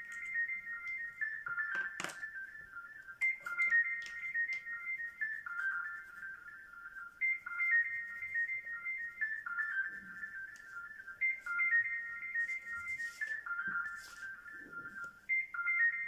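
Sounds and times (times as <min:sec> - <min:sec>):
high-pitched electronic ringtone melody: 0:00.0 - 0:16.0.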